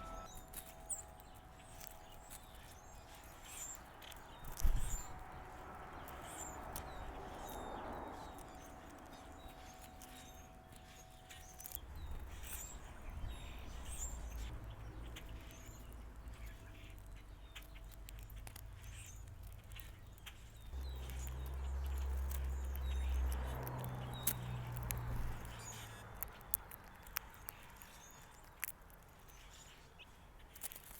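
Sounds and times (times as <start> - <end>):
distant engine rumble: 0.0 - 26.8
songbirds chirping: 0.0 - 30.9.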